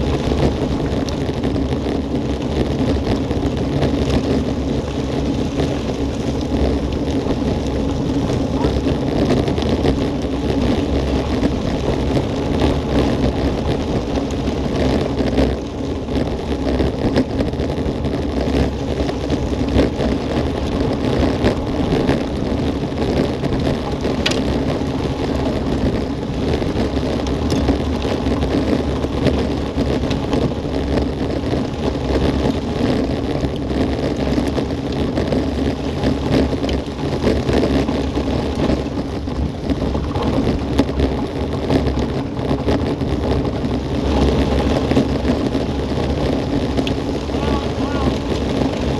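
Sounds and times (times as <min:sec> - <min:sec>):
bike tyres rumbling on gravel: 0:00.0 - 0:48.9
stones and bike rattling: 0:00.0 - 0:48.9
wind on microphone: 0:00.0 - 0:48.9.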